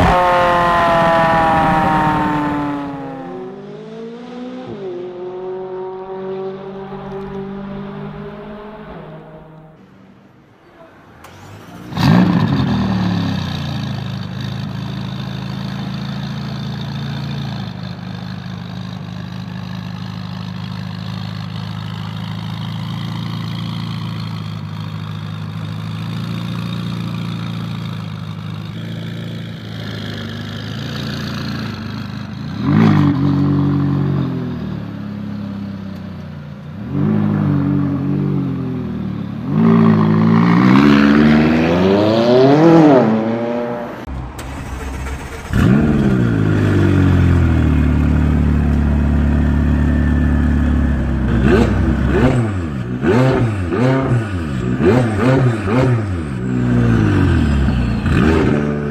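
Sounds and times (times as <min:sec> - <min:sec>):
sports car engine idling and revving: 0:00.0 - 0:58.9.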